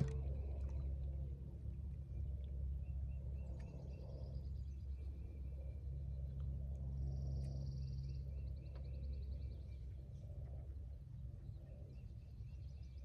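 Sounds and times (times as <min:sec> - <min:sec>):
songbirds singing: 0:00.0 - 0:13.0
steady low rumble: 0:00.0 - 0:13.0.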